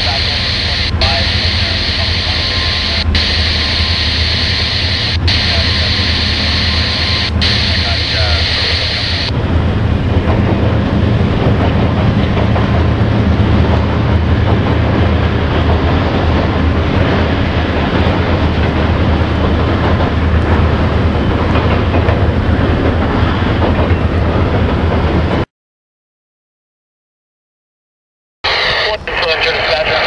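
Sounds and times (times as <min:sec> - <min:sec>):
freight train rumbling over bridge: 0:00.0 - 0:25.5, 0:28.5 - 0:30.0.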